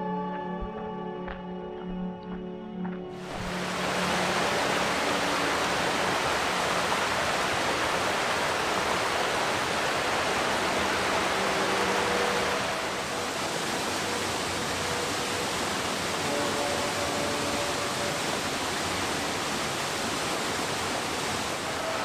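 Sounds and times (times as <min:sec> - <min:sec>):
waterfall rushing: 0:03.2 - 0:22.0.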